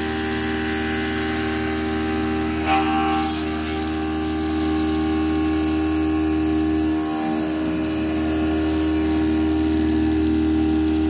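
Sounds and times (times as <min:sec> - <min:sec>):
coolant hiss: 0:00.0 - 0:11.0
milling machine cutting steel: 0:00.0 - 0:11.0.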